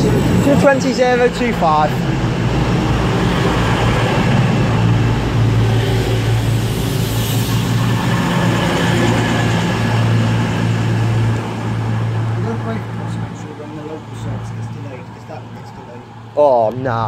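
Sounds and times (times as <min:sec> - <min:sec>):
train diesel engines droning: 0:00.0 - 0:17.0.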